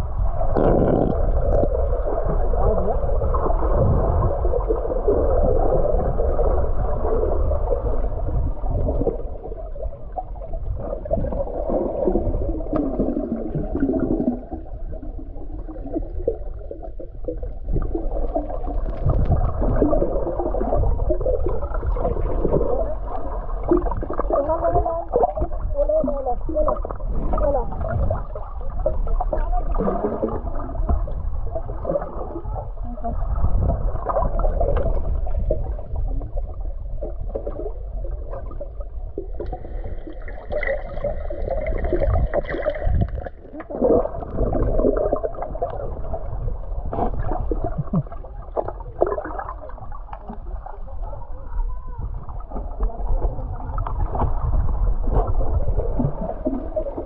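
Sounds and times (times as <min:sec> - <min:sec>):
muffled underwater water rumble: 0:00.0 - 0:57.0
water gurgling and bubbling: 0:00.0 - 0:57.0.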